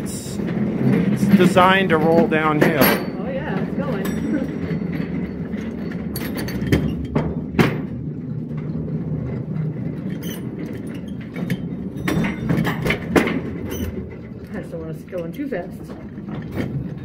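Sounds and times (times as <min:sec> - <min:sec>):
locomotive rumbling on track: 0:00.0 - 0:17.0
wheels clanking on rails: 0:00.0 - 0:17.0.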